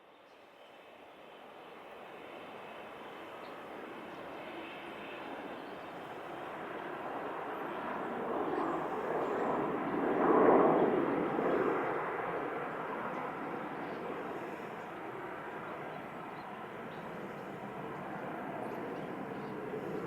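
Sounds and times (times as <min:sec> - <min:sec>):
jet airliner passing overhead: 0:00.4 - 0:20.0.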